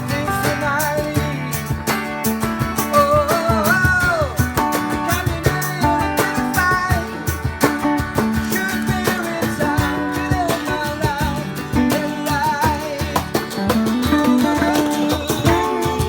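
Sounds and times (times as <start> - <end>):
person singing: 0.0 - 1.9, 2.8 - 7.5, 8.2 - 16.0
acoustic guitar strumming: 0.0 - 16.0.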